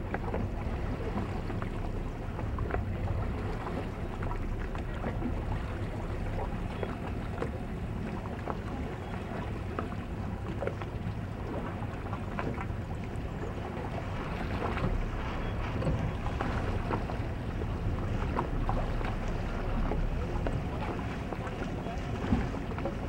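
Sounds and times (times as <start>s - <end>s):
water lapping against boat: 0.0s - 23.0s
wind rumble on microphone: 0.0s - 23.0s.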